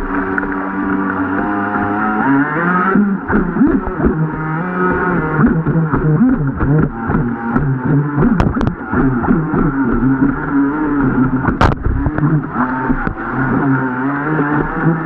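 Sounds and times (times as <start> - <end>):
model boat motor revving: 0.0 - 15.0.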